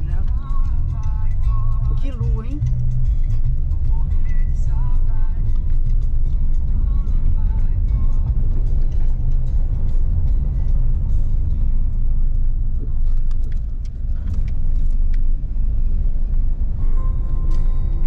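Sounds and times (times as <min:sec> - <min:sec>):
tyres rumbling on cobblestones: 0:00.0 - 0:18.0.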